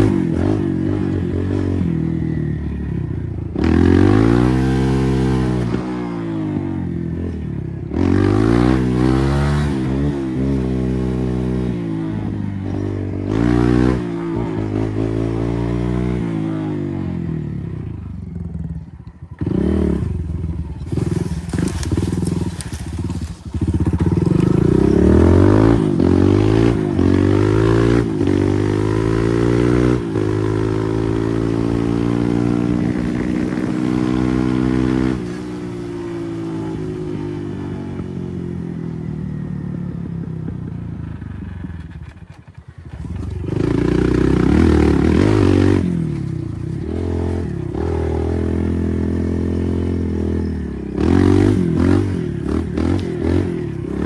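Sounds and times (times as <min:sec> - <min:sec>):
dirt bike engine revving: 0:00.0 - 0:02.2, 0:03.5 - 0:17.4, 0:19.4 - 0:38.7, 0:41.4 - 0:54.0.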